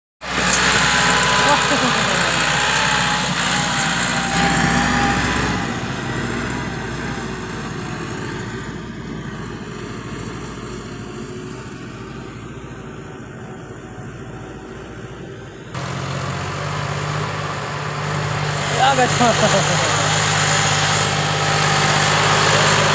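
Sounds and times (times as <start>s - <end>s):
tractor engine running: 0.2s - 22.9s.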